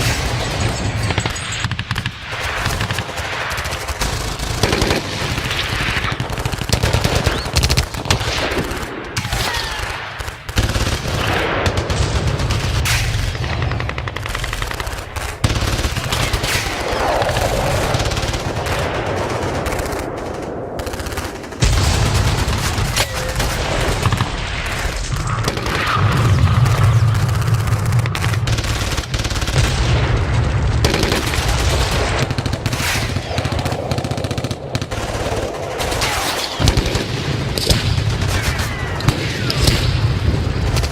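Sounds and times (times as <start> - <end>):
booming explosions: 0.0 - 40.9
machine-gun fire: 0.0 - 40.9
rifle shots: 0.0 - 40.9.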